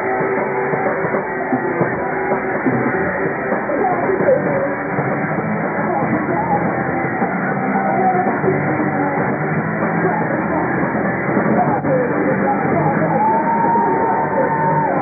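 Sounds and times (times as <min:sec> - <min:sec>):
distorted electric guitar: 0:00.0 - 0:15.0
muffled live rock band: 0:00.0 - 0:15.0.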